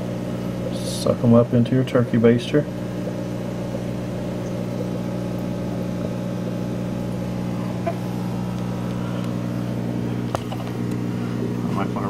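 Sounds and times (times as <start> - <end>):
aquarium equipment humming: 0.0 - 12.0.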